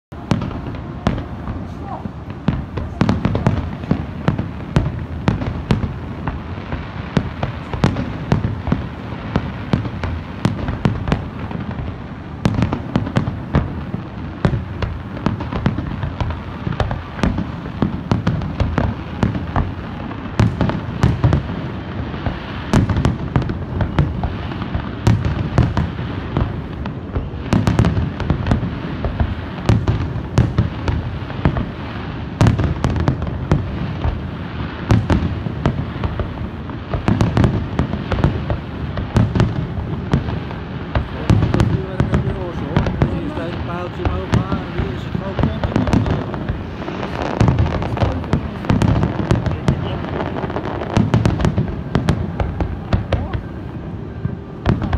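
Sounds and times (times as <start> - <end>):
sharp bangs and crackles: 0.1 - 54.9.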